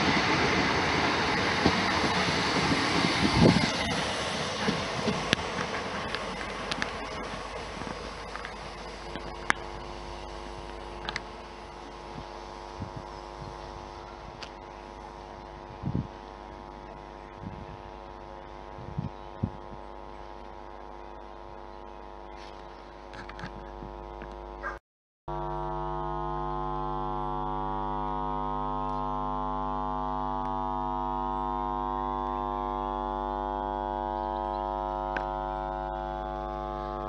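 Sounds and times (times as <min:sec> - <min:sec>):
camera zoom electrical buzz: 0:00.0 - 0:37.0.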